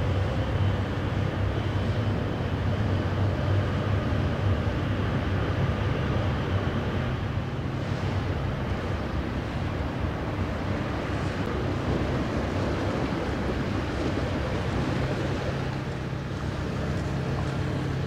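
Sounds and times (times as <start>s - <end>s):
ship engines droning: 0.0s - 18.0s.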